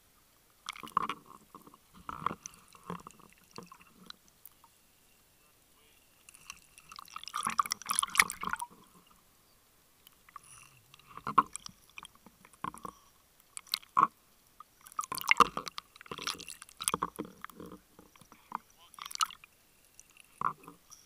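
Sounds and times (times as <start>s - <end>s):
underwater bubbles and gurgling: 0.2s - 4.7s, 6.2s - 9.3s, 10.0s - 21.0s.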